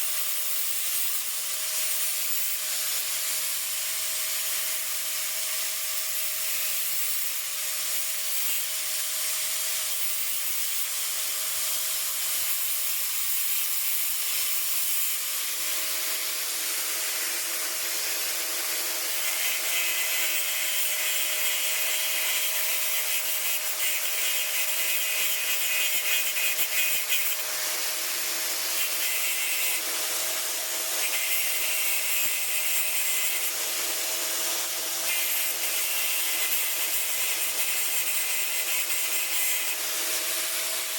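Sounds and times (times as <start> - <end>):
power tool grinding steel: 0.0 - 40.9.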